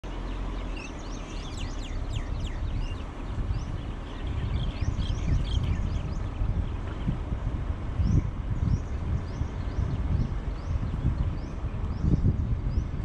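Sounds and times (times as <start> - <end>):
small birds chirping: 0.0 - 7.3, 8.0 - 13.0
car driving on paved road: 0.0 - 13.0.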